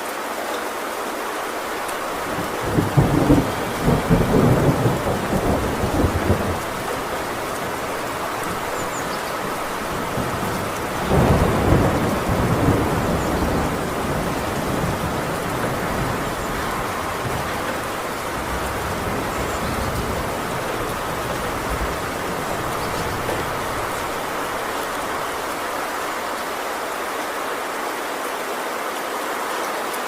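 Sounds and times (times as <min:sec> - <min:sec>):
heavy rain on a tin roof: 0:00.0 - 0:30.0
thunder rumbling: 0:01.6 - 0:26.8.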